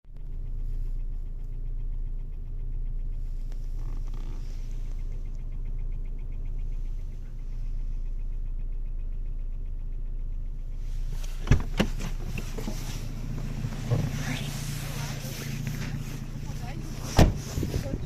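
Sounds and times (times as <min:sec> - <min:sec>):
car engine idling: 0:00.1 - 0:18.0
rapid even valve ticking: 0:00.2 - 0:17.0.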